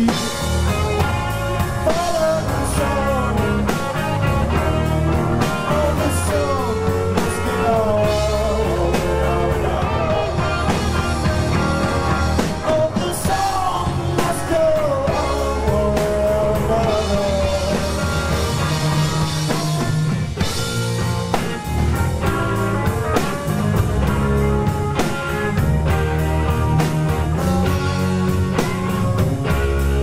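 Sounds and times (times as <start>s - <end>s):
bending guitar lead line: 0.0s - 30.0s
rock band playing: 0.0s - 30.0s.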